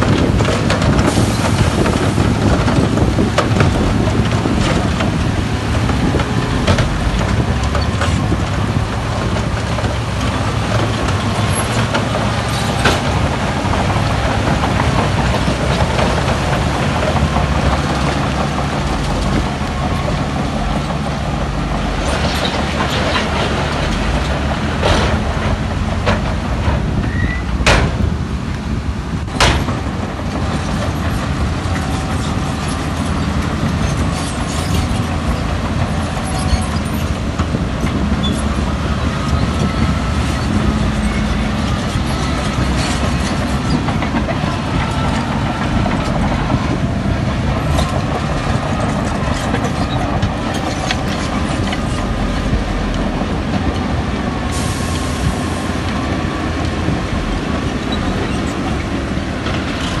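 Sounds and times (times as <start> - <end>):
diesel engine under load: 0.0 - 60.0
steel tracks clanking: 0.0 - 60.0.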